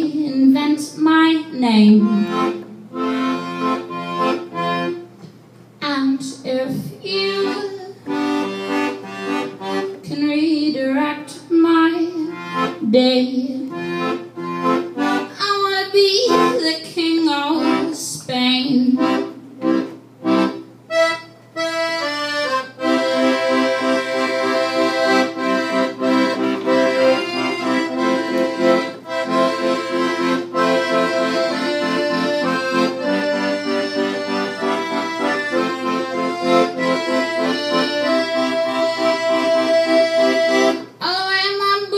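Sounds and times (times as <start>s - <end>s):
piano accordion chords: 0.0s - 5.3s, 6.6s - 41.0s.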